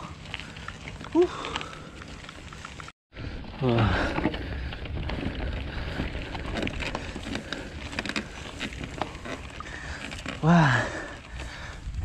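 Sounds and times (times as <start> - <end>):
bike tyres crunching over gravel: 0.0 - 12.0.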